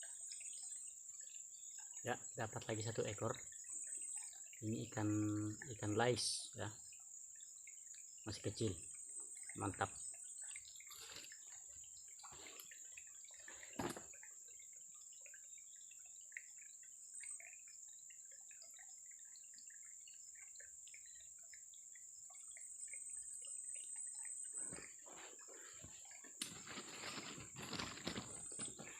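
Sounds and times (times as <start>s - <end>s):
insect chorus: 0.0s - 28.9s
water drips: 0.0s - 28.9s.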